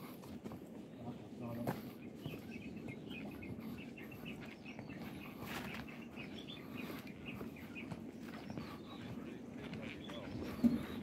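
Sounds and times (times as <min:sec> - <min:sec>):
footsteps on wooden boardwalk: 0:00.0 - 0:11.0.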